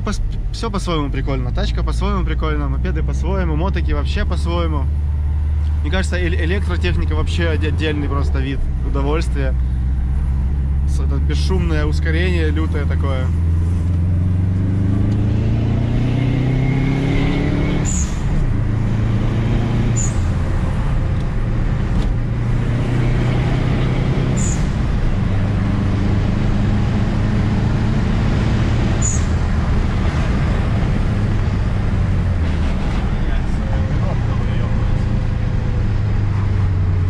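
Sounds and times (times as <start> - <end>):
car engine drone: 0.0 - 37.0
road noise: 0.0 - 37.0.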